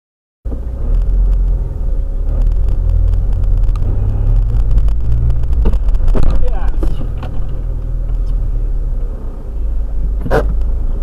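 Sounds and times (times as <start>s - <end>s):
car engine and tyres rumbling: 0.4s - 11.0s.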